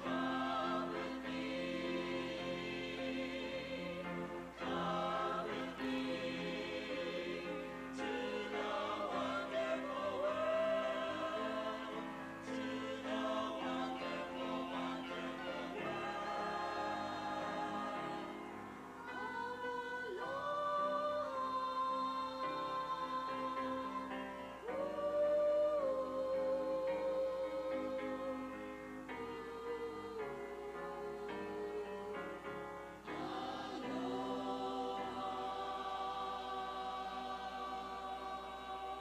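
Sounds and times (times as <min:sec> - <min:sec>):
choir singing in harmony: 0:00.0 - 0:39.0.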